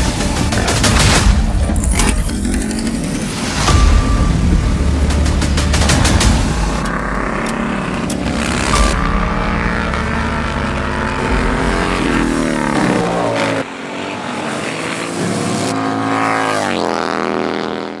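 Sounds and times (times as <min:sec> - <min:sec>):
motorcycle engines revving high: 0:00.0 - 0:18.0.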